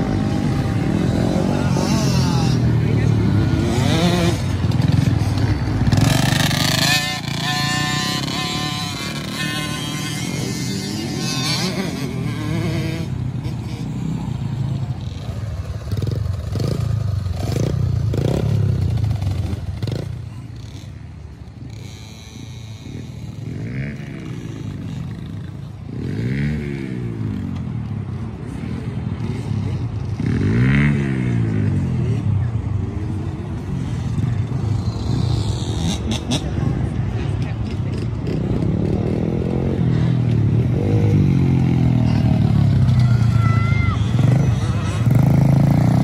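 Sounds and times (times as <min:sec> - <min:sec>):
dirt bike engines revving: 0:00.0 - 0:46.0.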